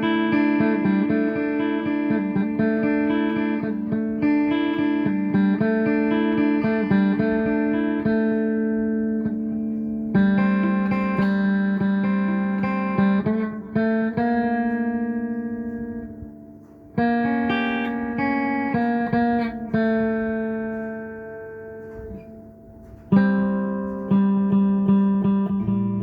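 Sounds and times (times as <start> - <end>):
plucked guitar music: 0.0 - 26.0.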